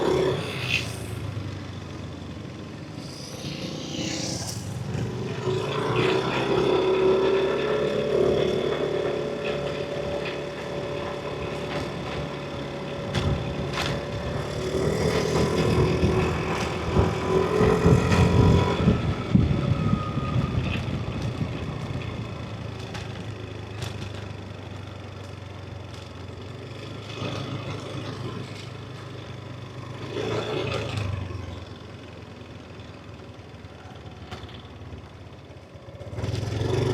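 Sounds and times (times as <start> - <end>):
road and wind noise: 0.0 - 36.9
scooter engine running: 0.0 - 36.9.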